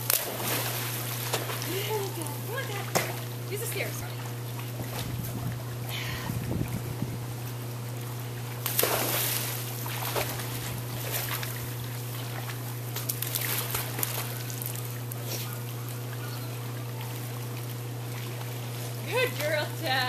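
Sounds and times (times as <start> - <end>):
dog splashing in a pool: 0.0 - 5.3, 8.4 - 20.0
steady low hum: 0.0 - 20.0.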